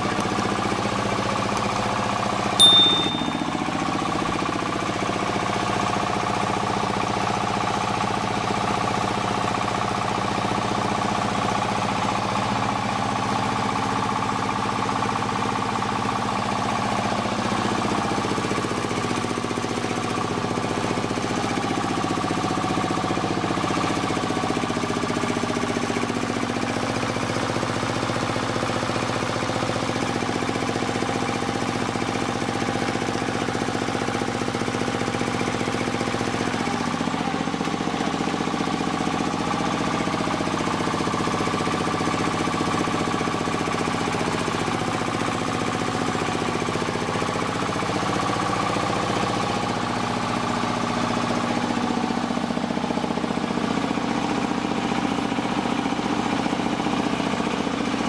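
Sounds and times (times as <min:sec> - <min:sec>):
diesel engine knocking: 0:00.0 - 0:58.0
rice milling machine humming: 0:00.0 - 0:58.0.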